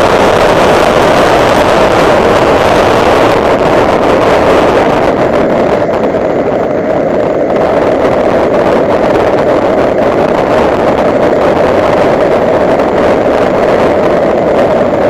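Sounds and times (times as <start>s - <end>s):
car engine running hard: 0.0s - 15.0s
wind and road noise: 0.0s - 15.0s.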